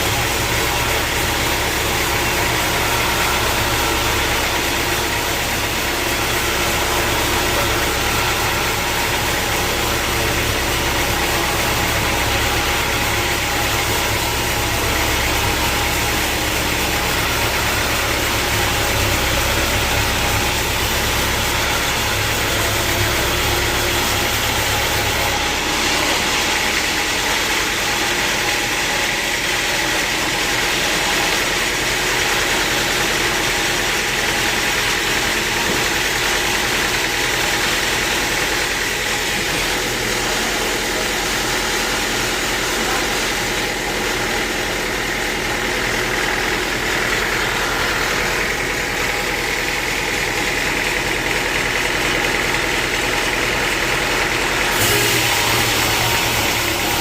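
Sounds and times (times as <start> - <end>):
sawmill machinery humming and whining: 0.0 - 57.0.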